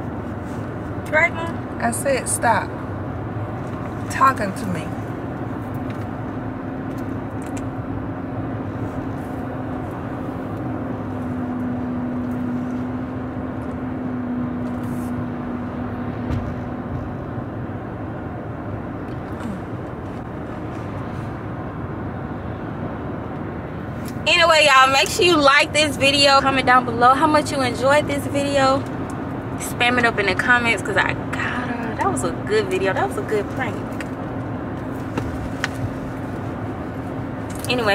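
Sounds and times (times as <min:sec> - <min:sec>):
car cabin road and engine noise: 0:00.0 - 0:37.9.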